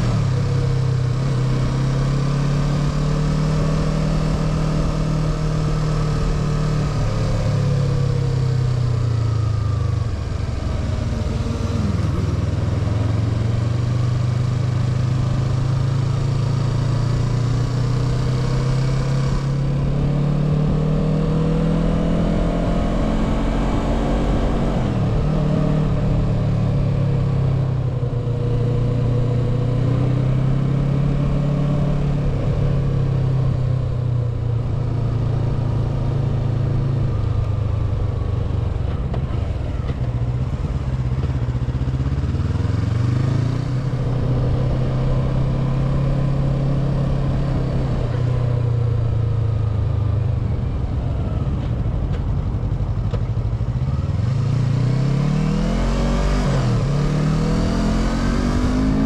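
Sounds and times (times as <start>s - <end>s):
motorcycle engine: 0.0s - 59.0s
wind and road noise: 0.0s - 59.0s.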